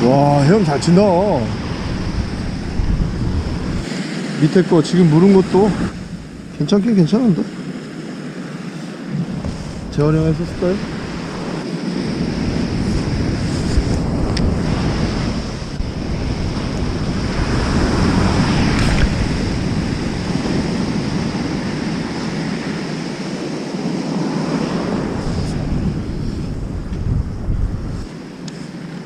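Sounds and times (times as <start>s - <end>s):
waves breaking on beach: 0.0s - 29.0s
wind on microphone: 0.0s - 29.0s.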